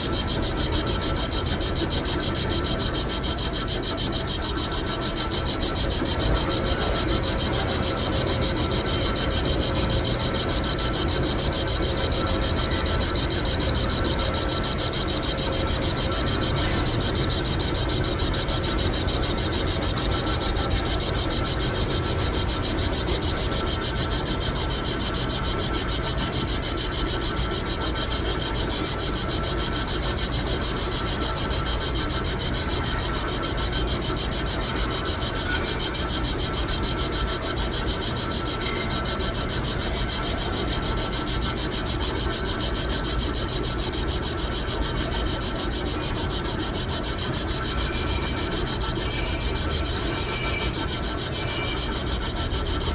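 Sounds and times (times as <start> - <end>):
metal lathe scraping: 0.0 - 27.8, 35.6 - 52.9
faint steady whine: 0.0 - 52.9.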